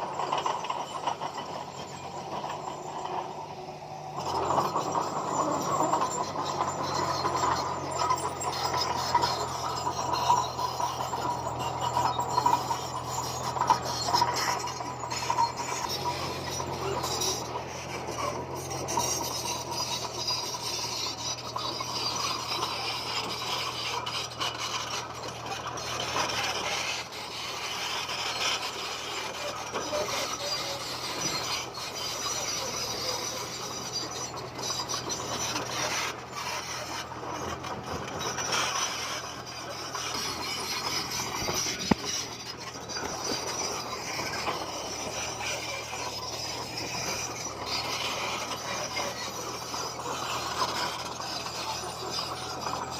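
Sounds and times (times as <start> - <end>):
bulldozer engine running: 0.0 - 52.9
tracks grinding and scraping stone: 0.0 - 52.9.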